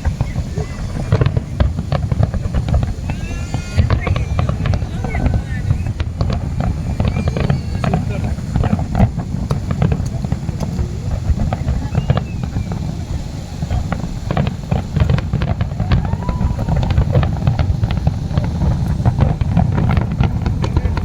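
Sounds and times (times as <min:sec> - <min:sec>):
continuous low rumble: 0:00.0 - 0:21.0
fireworks banging and crackling: 0:00.0 - 0:21.0.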